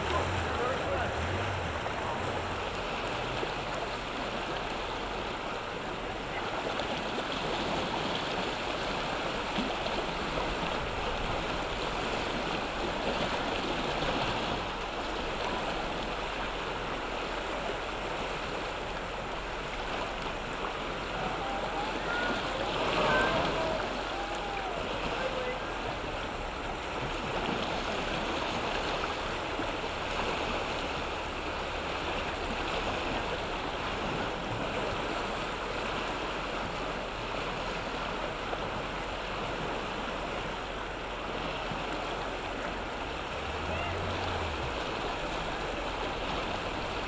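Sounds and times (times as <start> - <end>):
river rapids roaring: 0.0 - 47.0.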